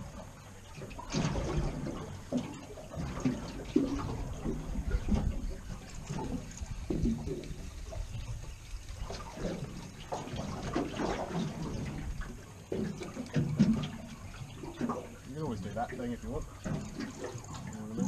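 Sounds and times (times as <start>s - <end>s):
water sloshing against boat hull: 0.0s - 18.0s.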